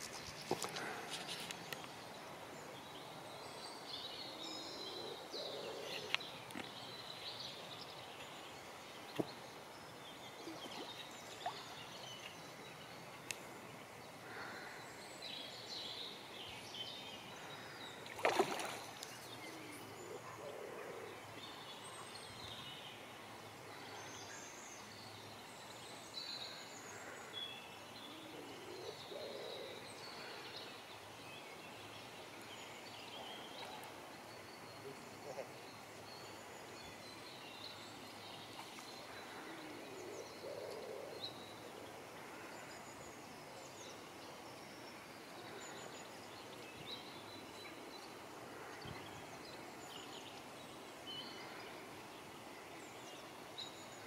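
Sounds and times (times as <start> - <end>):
faint steady hiss: 0.0 - 54.0
songbirds singing and calling: 0.0 - 54.0.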